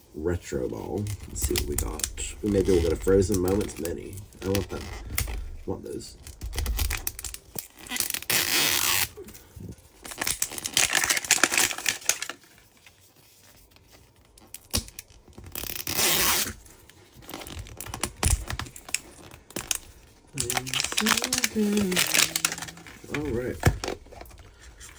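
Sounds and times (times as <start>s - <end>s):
plastic wrapping tearing and crinkling: 0.7s - 24.9s.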